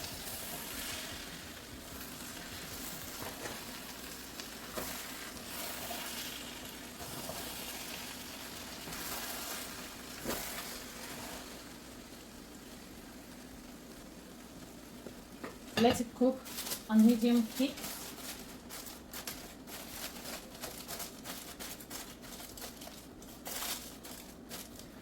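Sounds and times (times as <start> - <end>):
rice sizzling in a pot: 0.0 - 25.0.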